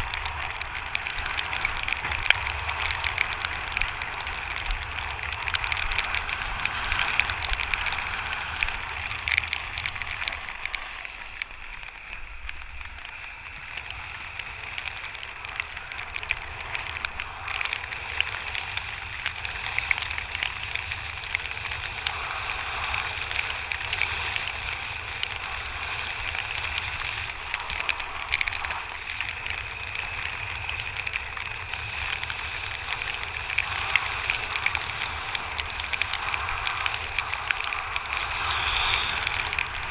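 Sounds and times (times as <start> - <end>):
water rushing and spray: 0.0 - 39.9.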